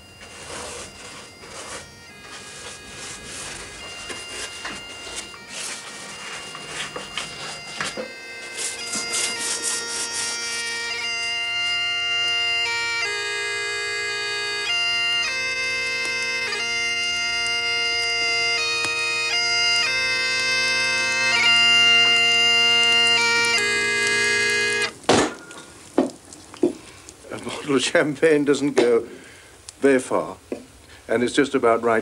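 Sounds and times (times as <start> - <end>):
bagpipe tune over drone: 0.0 - 25.6.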